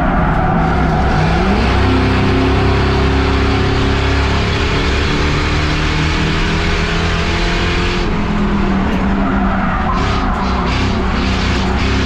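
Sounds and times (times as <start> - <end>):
race car engines at speed: 0.0 - 12.0.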